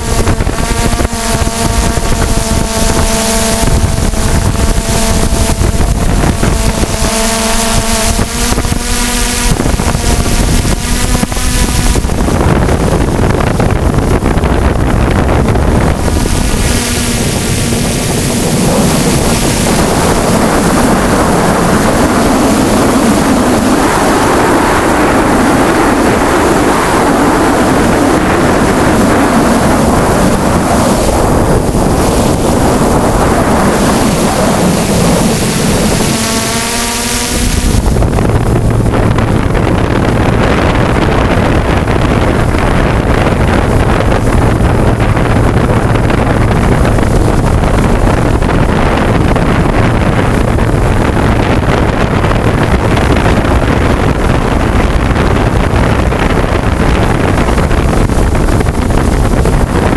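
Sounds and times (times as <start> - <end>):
drone propellers whining: 0.0 - 59.9
wind rushing over microphone: 0.0 - 59.9.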